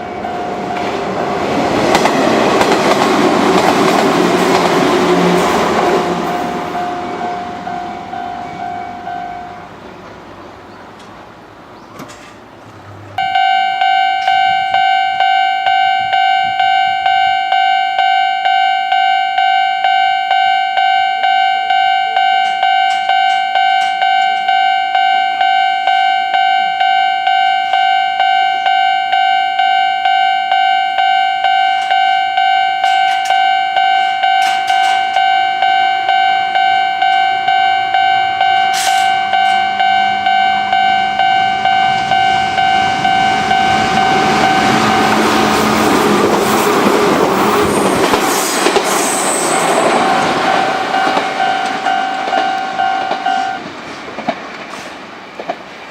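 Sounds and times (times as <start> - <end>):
level crossing warning bell: 0.0 - 9.8, 13.2 - 48.2, 49.0 - 53.7.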